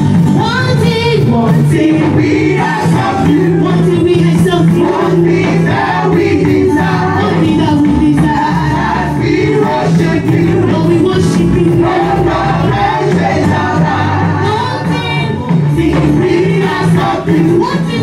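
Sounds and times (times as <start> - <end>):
band playing: 0.0 - 18.0
gospel choir singing: 1.3 - 18.0.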